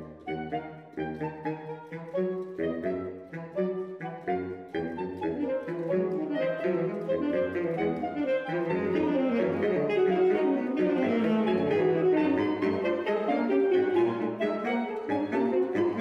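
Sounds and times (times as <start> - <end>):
saxophone quartet playing: 0.0 - 16.0.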